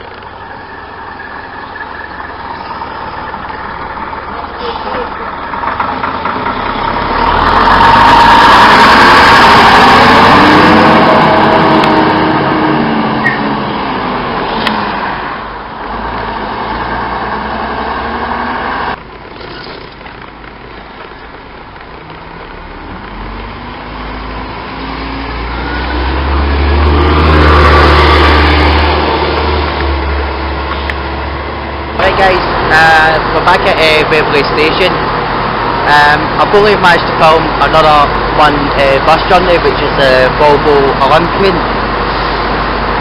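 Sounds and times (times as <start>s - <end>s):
bus engine revving up: 0.0s - 20.0s, 21.9s - 43.0s
bus engine slowing: 0.0s - 43.0s.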